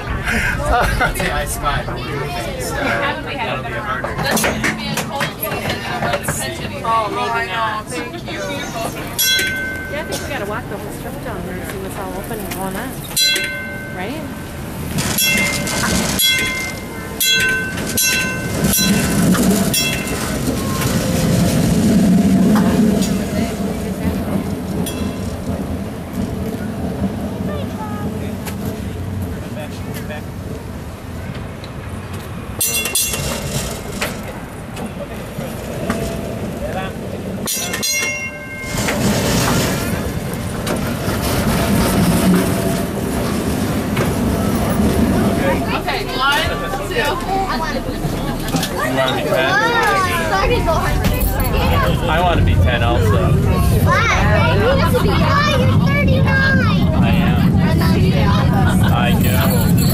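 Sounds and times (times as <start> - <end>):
streetcar bell clanging: 0.0 - 59.9
streetcar rumbling on rails: 0.0 - 59.9.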